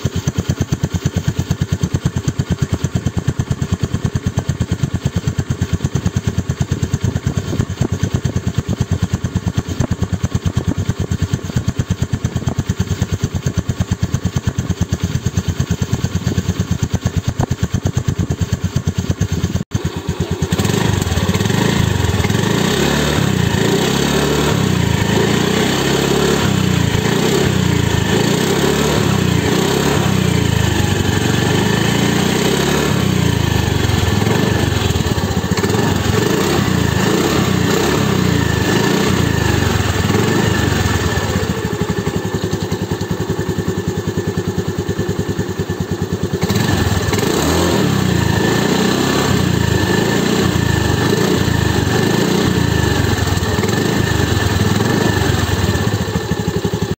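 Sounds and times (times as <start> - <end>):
scooter engine running: 0.0 - 56.9.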